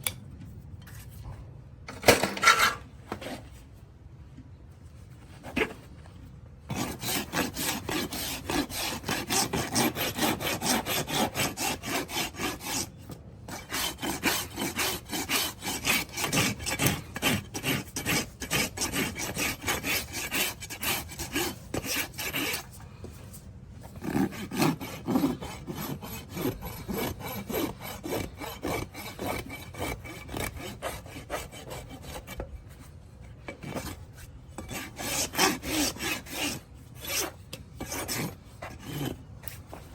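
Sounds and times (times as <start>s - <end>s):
hand tool scraping hoof: 1.9s - 3.5s, 6.7s - 39.9s.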